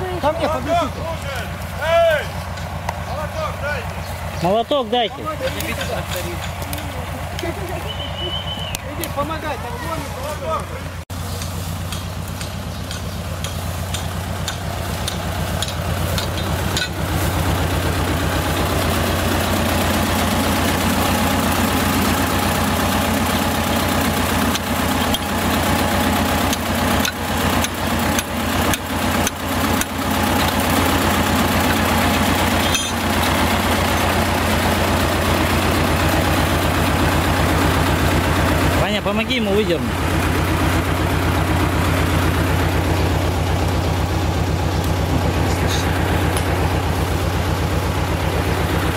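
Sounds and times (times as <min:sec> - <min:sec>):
tractor engine idling: 0:00.0 - 0:48.9.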